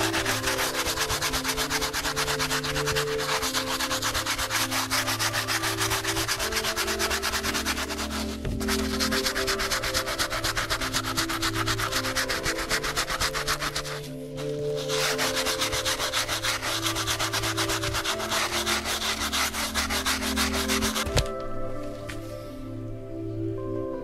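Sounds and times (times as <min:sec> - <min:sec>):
brush scrubbing leather sneaker: 0:00.0 - 0:22.2.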